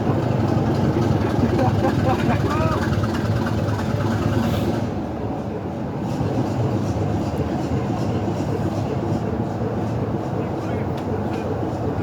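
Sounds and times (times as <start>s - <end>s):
train running low and steady: 0.0s - 12.0s.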